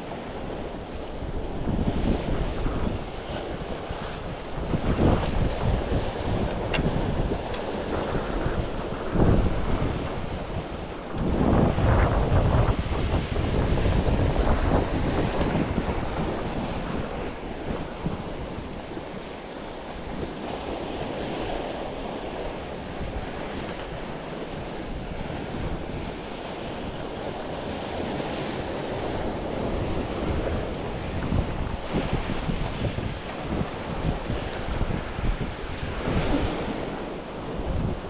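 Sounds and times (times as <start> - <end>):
sea waves: 0.0 - 38.0
wind buffeting microphone: 0.0 - 38.0.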